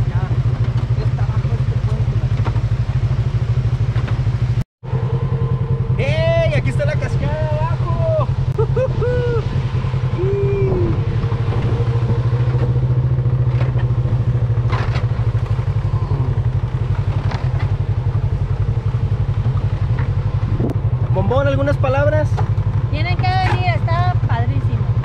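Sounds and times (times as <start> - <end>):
off-road vehicle engine droning: 0.0 - 25.0.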